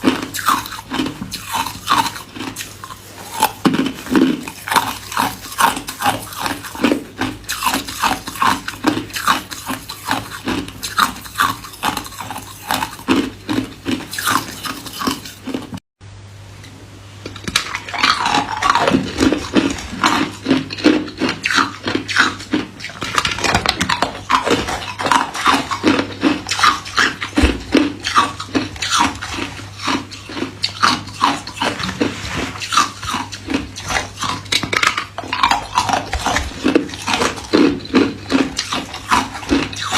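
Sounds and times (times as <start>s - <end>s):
ice crunching while chewed: 0.0s - 15.8s, 17.2s - 39.9s.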